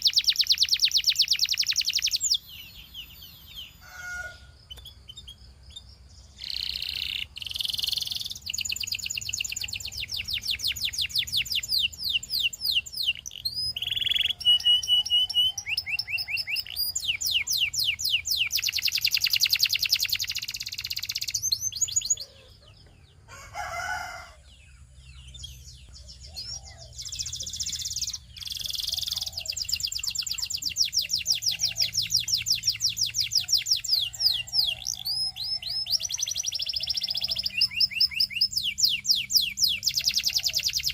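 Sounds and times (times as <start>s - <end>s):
canary singing in rolling trills: 0.0s - 40.9s.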